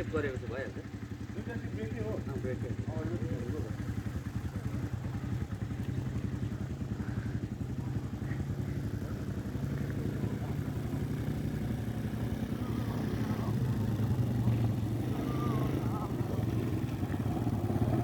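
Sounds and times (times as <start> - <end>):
atv engine running at low speed: 0.0 - 18.0.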